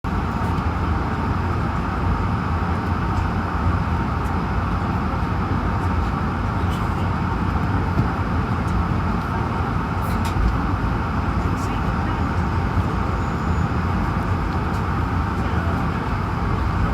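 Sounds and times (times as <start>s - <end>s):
rush of air in aircraft cabin: 0.1s - 16.9s
faint steady whine: 0.2s - 16.9s.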